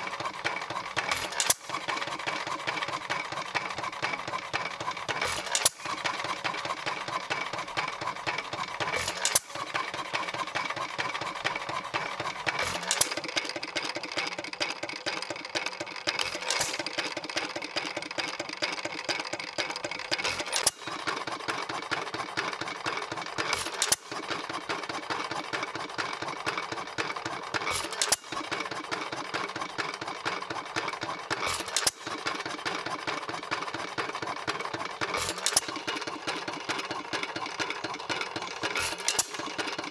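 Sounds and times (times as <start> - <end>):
engine mechanical clatter: 0.0 - 39.9.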